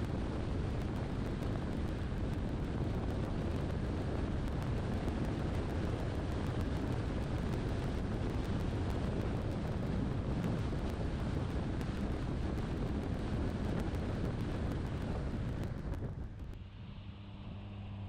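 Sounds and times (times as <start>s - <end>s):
car road and wind noise: 0.0s - 17.8s.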